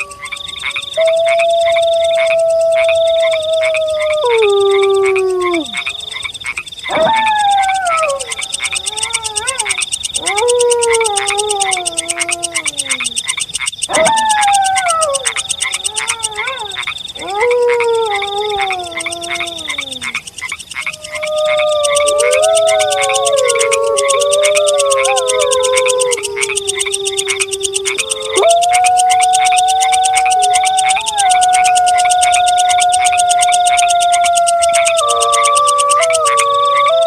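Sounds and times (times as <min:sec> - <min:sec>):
wolves howling: 0:00.0 - 0:20.2, 0:20.8 - 0:37.0
frogs croaking: 0:00.0 - 0:37.0.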